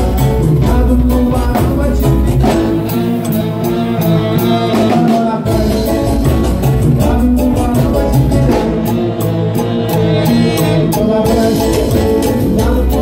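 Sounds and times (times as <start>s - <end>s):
deep bass: 0.0s - 13.0s
live band playing latin dance music: 0.0s - 13.0s.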